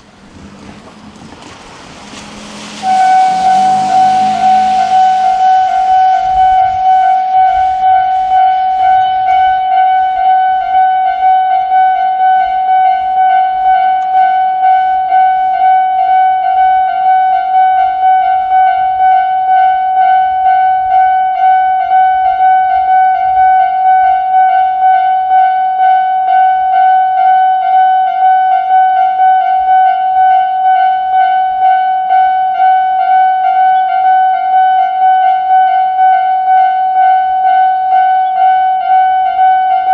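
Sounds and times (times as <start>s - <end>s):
level crossing electronic alarm: 2.8s - 39.9s.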